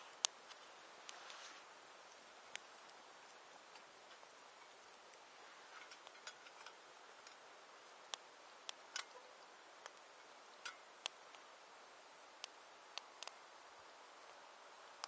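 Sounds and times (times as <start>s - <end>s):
campfire crackling and popping: 0.0s - 15.0s
faint steady hiss: 0.0s - 15.0s.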